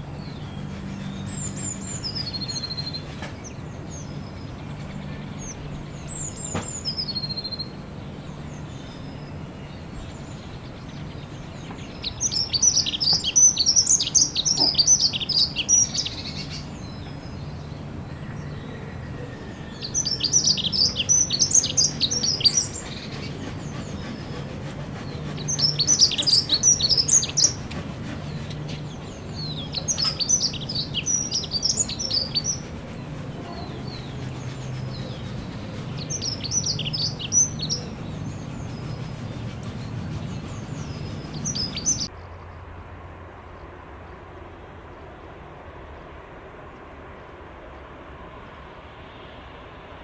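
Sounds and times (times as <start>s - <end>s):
songbird chirping: 0.0s - 42.7s
dull background noise: 0.0s - 50.0s.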